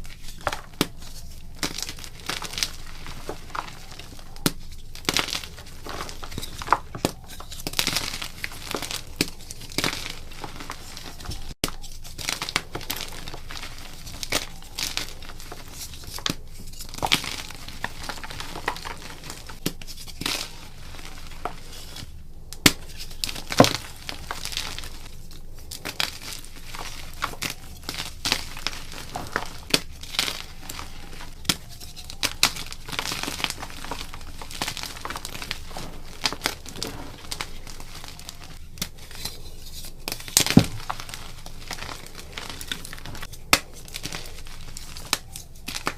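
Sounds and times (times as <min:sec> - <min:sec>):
chalk being crushed: 0:00.0 - 0:45.9.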